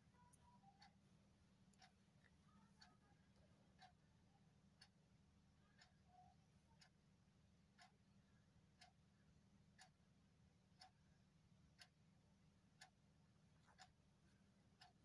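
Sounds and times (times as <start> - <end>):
clock ticking faintly: 0.0 - 15.0
low steady hum: 0.0 - 15.0.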